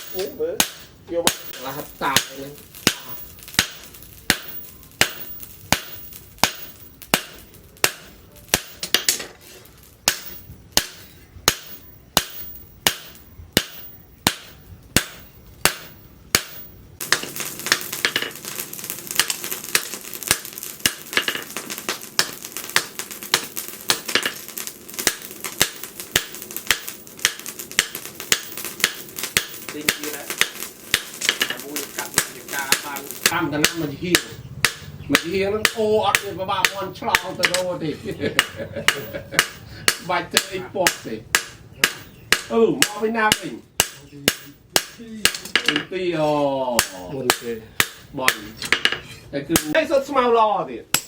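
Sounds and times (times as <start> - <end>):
hammer striking steel on anvil: 0.0 - 9.4, 10.0 - 18.4, 19.2 - 37.7, 38.4 - 45.9, 46.8 - 49.8
steady hiss: 0.0 - 51.0.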